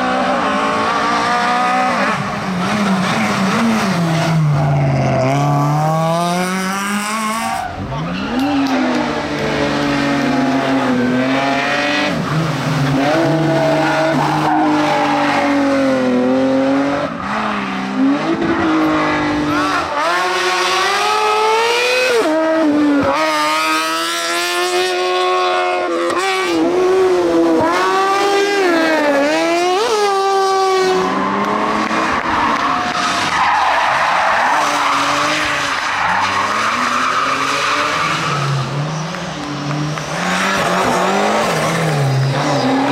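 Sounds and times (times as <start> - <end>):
racing car engines revving: 0.0 - 42.9.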